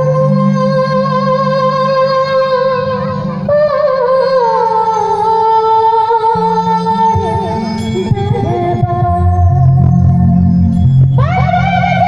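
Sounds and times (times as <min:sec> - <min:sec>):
woman singing into microphone: 0:00.0 - 0:12.0.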